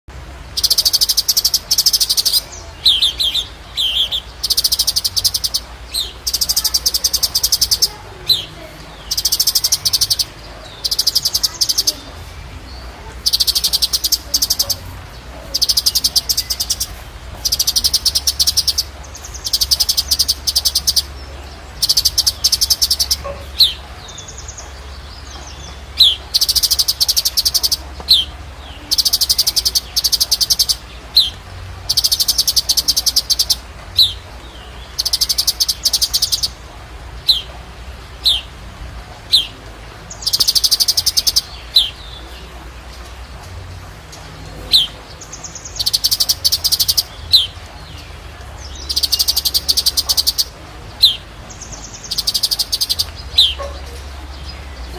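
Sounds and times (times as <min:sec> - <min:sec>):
bird singing trilled bursts: 0:00.2 - 0:54.9.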